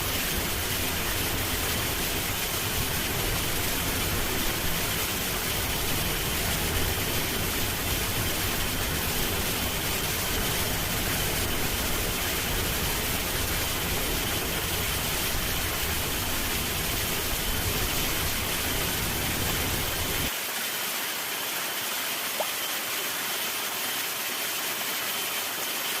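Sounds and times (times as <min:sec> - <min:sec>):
waterfall rushing: 0:00.0 - 0:21.8.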